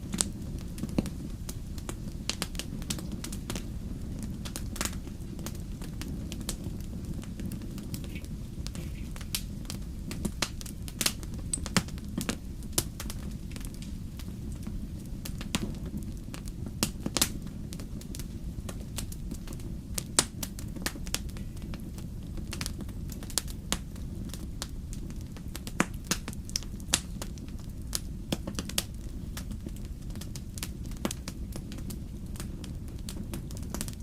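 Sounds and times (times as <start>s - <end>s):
fire crackles and pops: 0.0s - 34.0s
fire flames rumbling: 0.0s - 34.0s.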